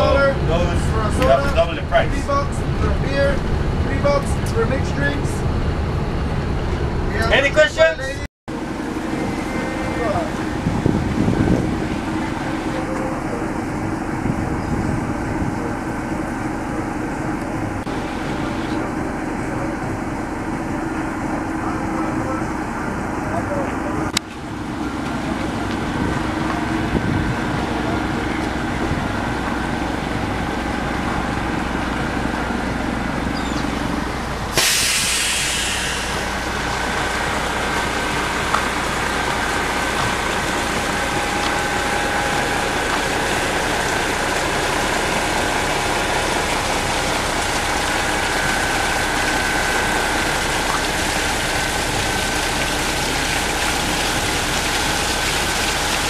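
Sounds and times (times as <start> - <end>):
fountain water splashing: 8.5 - 56.0.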